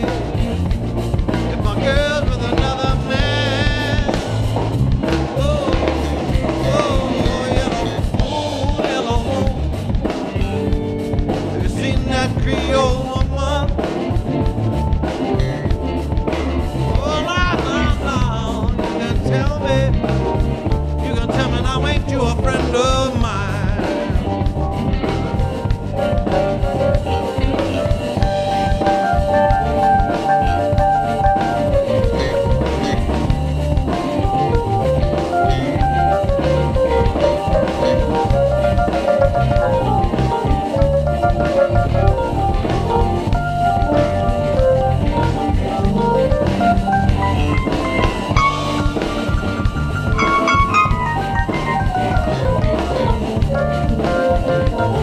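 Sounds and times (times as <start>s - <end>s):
drum kit beat: 0.0s - 55.0s
electric bass: 0.0s - 55.0s
electric guitar: 0.0s - 55.0s
keyboard: 0.0s - 55.0s.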